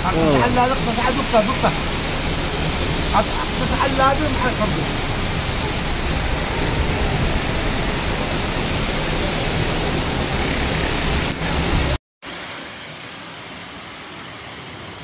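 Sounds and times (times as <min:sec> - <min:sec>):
torrential rain hissing: 0:00.0 - 0:15.0.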